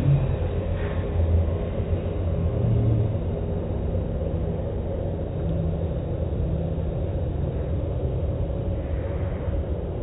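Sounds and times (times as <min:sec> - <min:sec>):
car wash equipment rumbling: 0:00.0 - 0:10.0.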